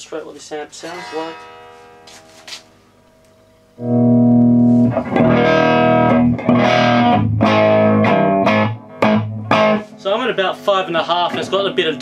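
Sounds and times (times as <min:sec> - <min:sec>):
overdriven electric guitar chords: 0:00.8 - 0:12.0.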